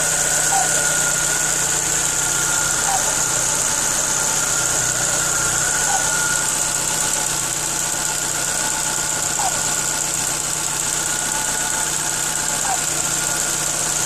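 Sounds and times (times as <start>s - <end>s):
car engine idling: 0.0s - 14.0s
high-pitched whine: 0.0s - 14.0s.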